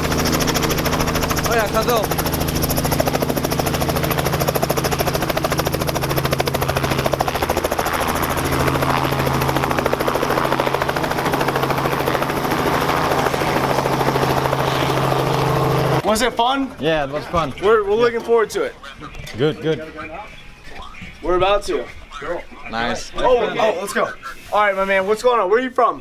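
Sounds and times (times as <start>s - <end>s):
helicopter engine drone: 0.0s - 24.6s
helicopter rotor beating: 0.0s - 25.0s.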